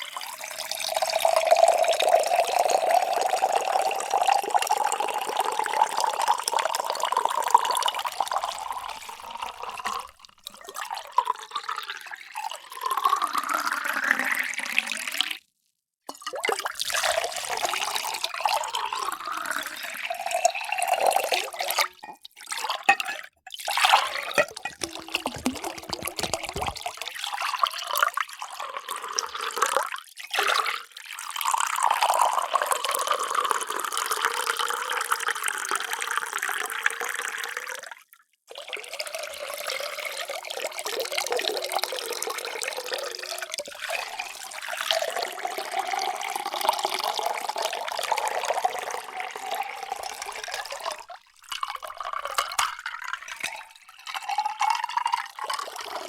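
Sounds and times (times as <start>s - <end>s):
water pouring into vessels: 0.0s - 15.4s, 16.1s - 56.0s.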